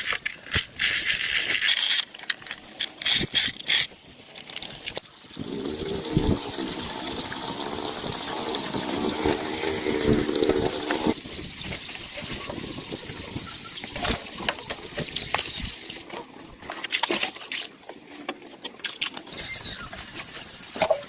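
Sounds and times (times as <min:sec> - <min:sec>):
liquid trickling and splashing: 0:00.9 - 0:21.0.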